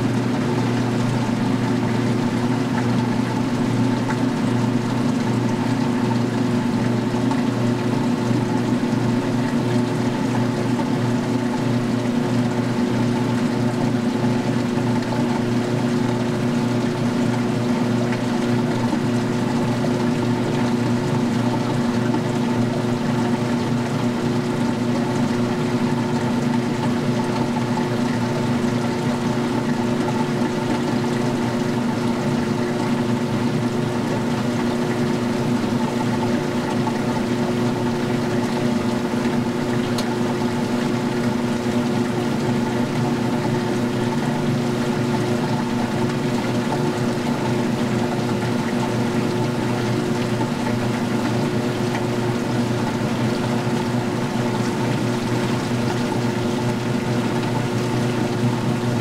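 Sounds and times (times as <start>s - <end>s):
washer pump and tub humming: 0.0s - 59.0s
water being pumped out: 0.0s - 59.0s.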